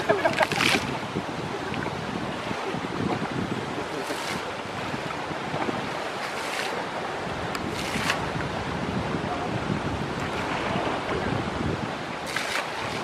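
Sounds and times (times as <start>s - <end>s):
water splashes: 0.0s - 9.4s, 10.1s - 13.0s
shallow river water running: 0.0s - 13.0s
wind noise on microphone: 0.0s - 13.0s.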